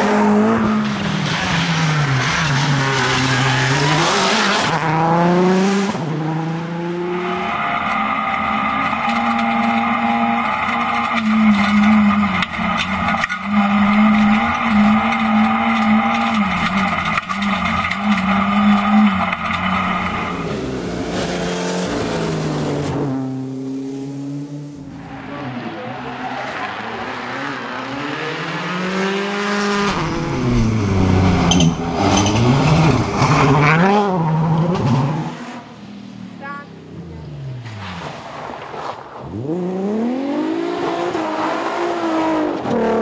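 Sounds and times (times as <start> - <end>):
rally car engine revving: 0.0 - 38.3, 39.2 - 43.0.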